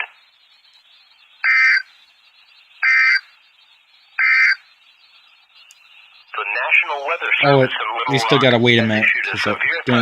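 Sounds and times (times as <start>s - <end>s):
faint radio hiss: 0.0s - 10.0s.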